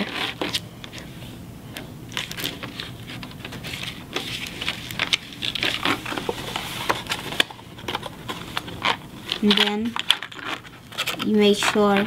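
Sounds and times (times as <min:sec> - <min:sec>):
cardstock rustling: 0:02.1 - 0:12.0.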